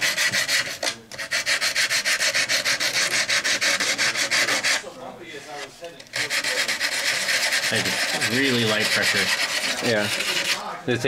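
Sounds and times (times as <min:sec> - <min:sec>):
sandpaper scratching: 0:00.0 - 0:04.9, 0:06.2 - 0:10.7.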